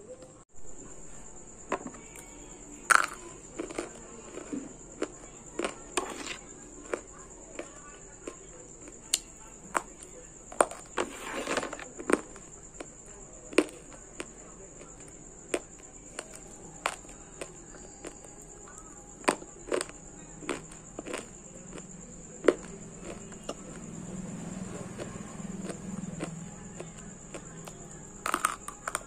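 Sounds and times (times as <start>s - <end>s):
crunchy biting and chewing: 2.2s - 29.0s.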